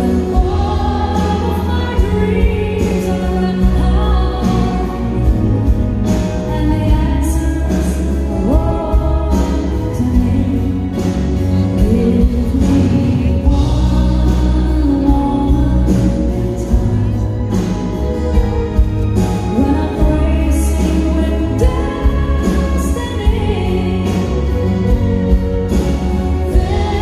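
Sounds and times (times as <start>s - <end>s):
woman singing into microphone: 0.0s - 18.5s, 19.2s - 27.0s
bass line: 0.0s - 27.0s
live band playing: 0.0s - 27.0s.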